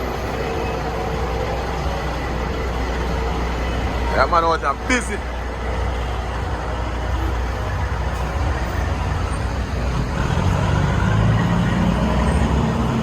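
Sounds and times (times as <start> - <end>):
street traffic: 0.0 - 13.0
vehicle engine humming: 0.0 - 13.0.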